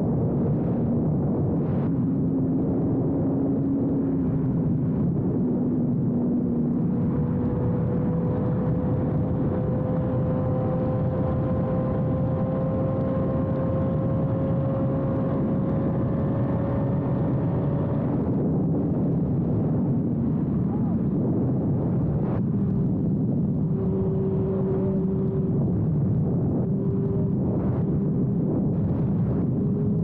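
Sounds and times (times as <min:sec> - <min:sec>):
motorcycle engine at speed: 0:00.0 - 0:30.0
wind and road noise: 0:00.0 - 0:30.0.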